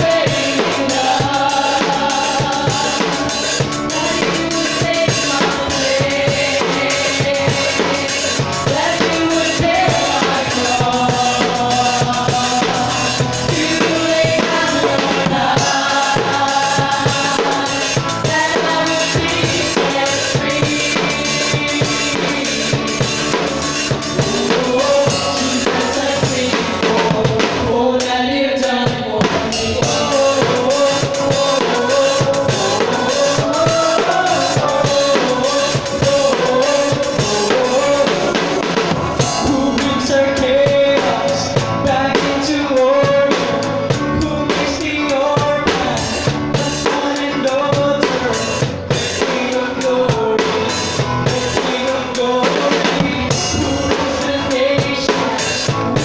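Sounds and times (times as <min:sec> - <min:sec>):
drum kit playing: 0:00.0 - 0:56.0
live band music: 0:00.0 - 0:56.0.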